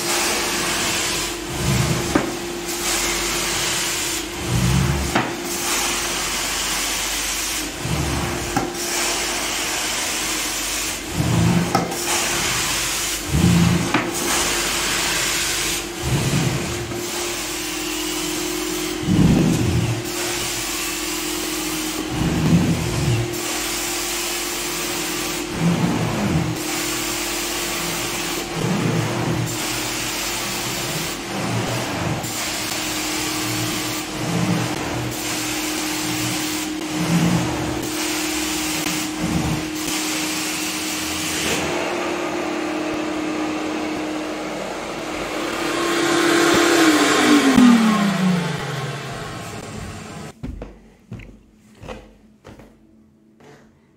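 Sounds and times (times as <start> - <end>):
cleaning wand strokes on carpet: 0.0 - 50.3
vacuum motor running: 0.0 - 50.4.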